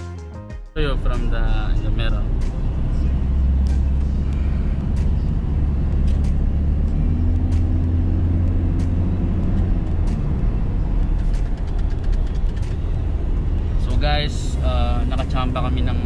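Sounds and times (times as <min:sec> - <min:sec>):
road and engine rumble in car: 0:00.8 - 0:16.0.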